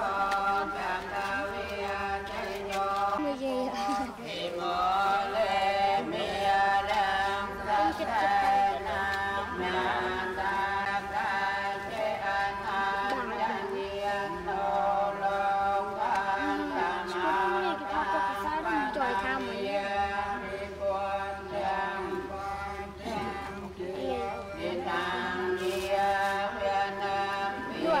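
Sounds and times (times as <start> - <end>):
voices chanting together: 0.0 - 28.0.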